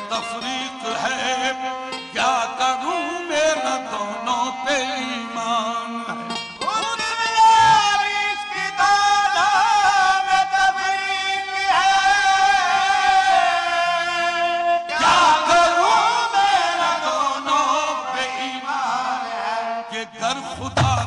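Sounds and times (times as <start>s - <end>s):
harmonium melody: 0.0s - 21.0s.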